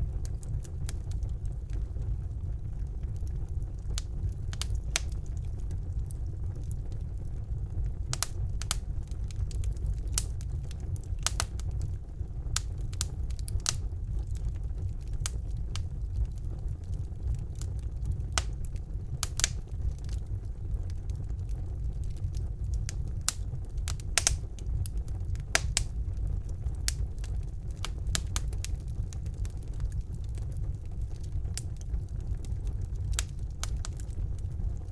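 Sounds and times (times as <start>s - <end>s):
wood fire rumbling and crackling: 0.0s - 34.9s.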